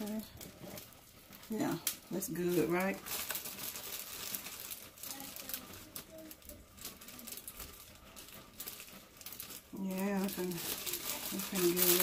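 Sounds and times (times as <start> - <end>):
butter sizzling in a frying pan: 0.0 - 12.0.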